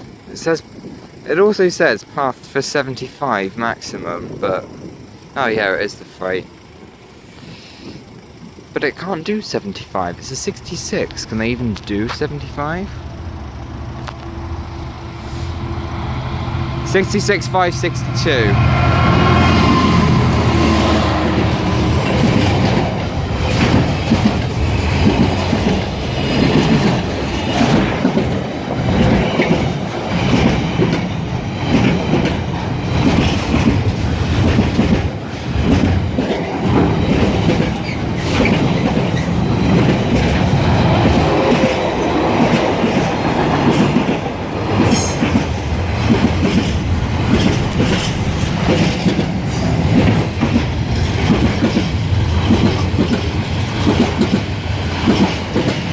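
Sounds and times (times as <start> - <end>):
train wheels clattering over rail joints: 3.4 - 55.9.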